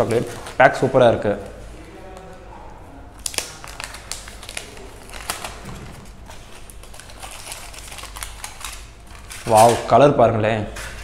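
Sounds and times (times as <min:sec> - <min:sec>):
foil wrapper crinkling: 0:00.0 - 0:02.3, 0:03.2 - 0:10.0.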